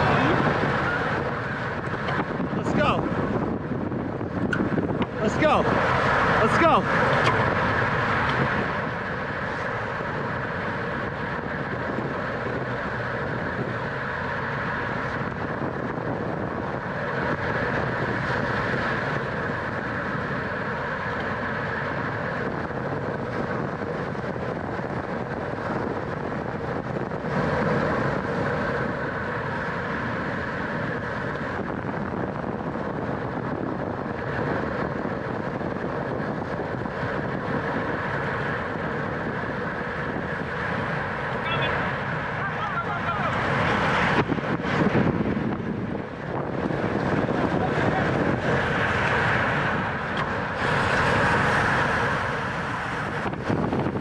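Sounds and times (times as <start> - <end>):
road noise: 0.0 - 54.0
wind rush: 0.0 - 54.0.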